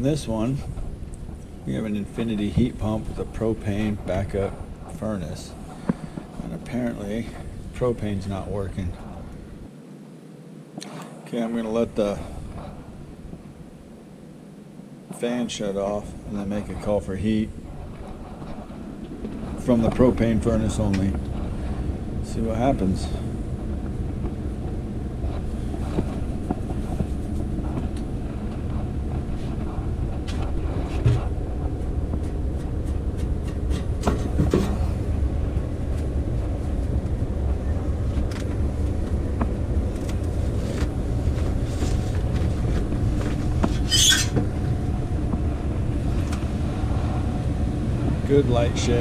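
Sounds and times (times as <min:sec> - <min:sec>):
furnace blower rumbling: 0:00.0 - 0:09.7, 0:10.7 - 0:49.0.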